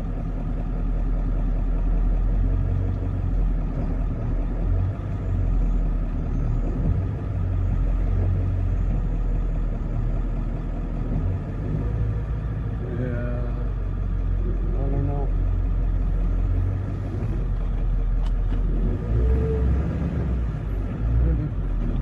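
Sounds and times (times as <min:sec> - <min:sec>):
truck engine at low revs: 0:00.0 - 0:22.0.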